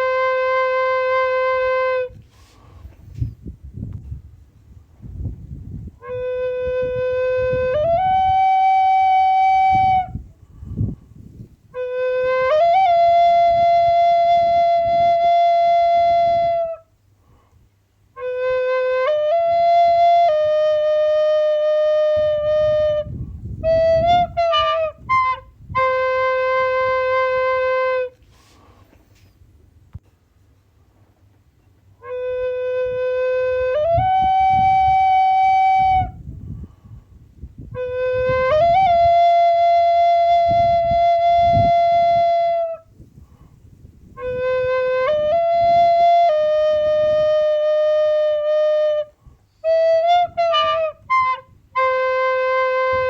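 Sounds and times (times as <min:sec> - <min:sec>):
solo flute: 0:00.0 - 0:03.9, 0:05.1 - 0:17.0, 0:18.1 - 0:28.8, 0:32.0 - 0:43.4, 0:44.0 - 0:53.0.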